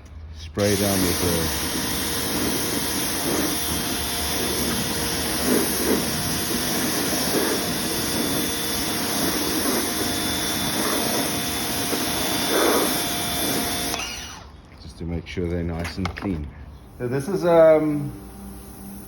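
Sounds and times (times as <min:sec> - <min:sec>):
pressurised spray hissing: 0:00.6 - 0:13.9, 0:16.9 - 0:19.0.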